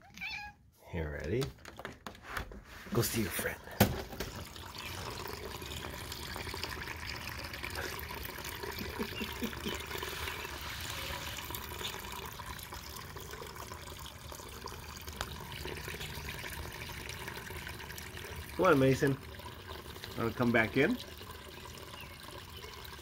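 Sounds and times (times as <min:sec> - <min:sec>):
rain falling on a pond: 0:04.4 - 0:23.0.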